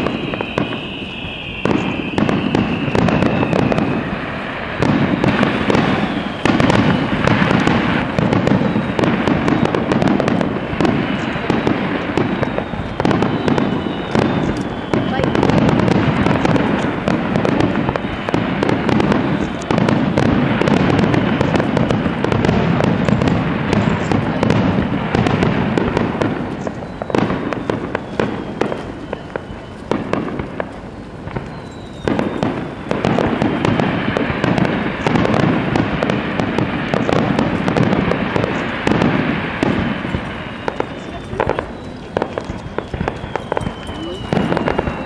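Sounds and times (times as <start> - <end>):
fireworks bursts and crackling: 0.0 - 45.0.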